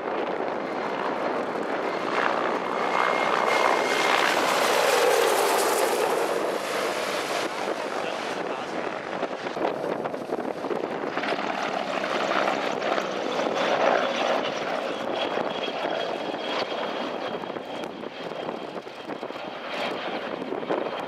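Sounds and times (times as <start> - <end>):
helicopter flying past: 0.0 - 21.0.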